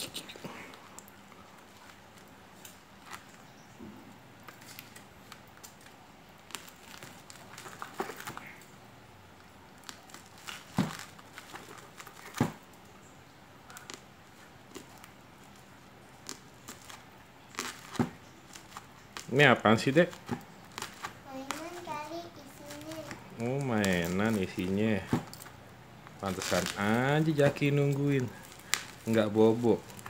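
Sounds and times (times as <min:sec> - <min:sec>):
plastic wrap crinkling and tearing: 0:04.3 - 0:08.8, 0:09.4 - 0:12.9, 0:13.6 - 0:30.0.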